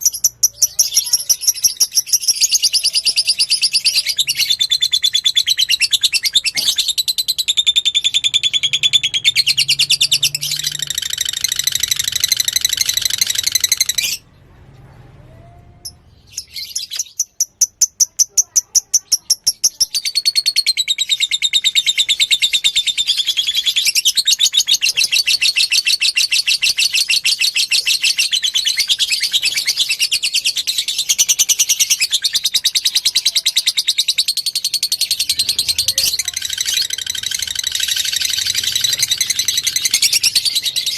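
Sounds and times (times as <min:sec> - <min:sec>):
lovebird chattering trill: 0:00.0 - 0:14.2, 0:15.8 - 0:40.9.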